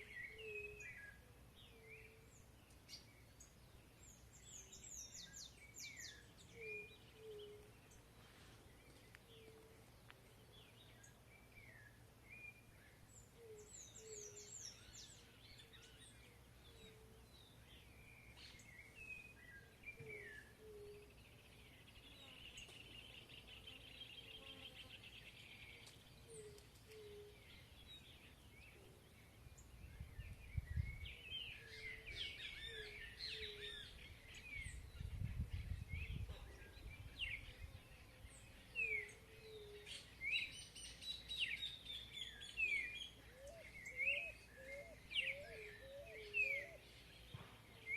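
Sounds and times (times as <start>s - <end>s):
birds chirping and whistling: 0.0s - 9.8s, 10.4s - 47.9s.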